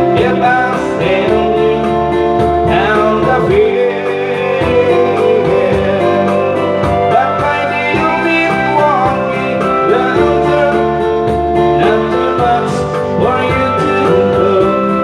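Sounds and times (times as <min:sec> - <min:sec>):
guitar strumming: 0:00.0 - 0:15.0
person singing: 0:00.0 - 0:15.0.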